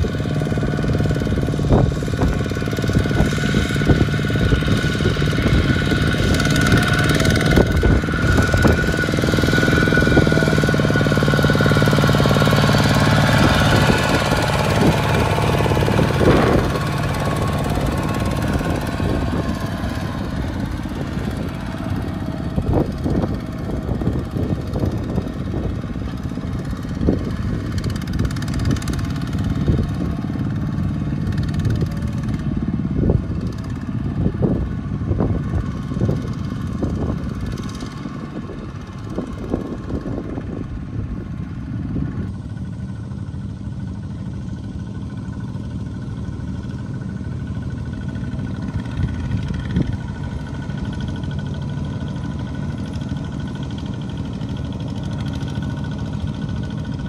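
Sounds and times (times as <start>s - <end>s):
diesel engine knocking under load: 0.0s - 57.0s.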